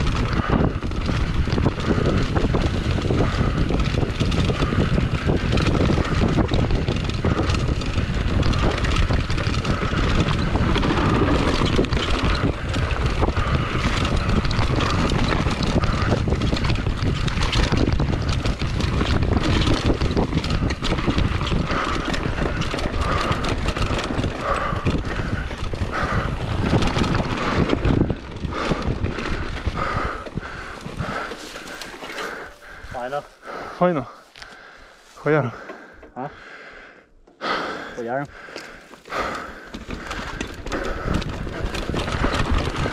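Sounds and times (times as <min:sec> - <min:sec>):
wind rushing over microphone: 0:00.0 - 0:35.7, 0:39.1 - 0:42.9
bike clattering over bumps: 0:00.0 - 0:42.9
bike tyre noise: 0:00.0 - 0:42.9.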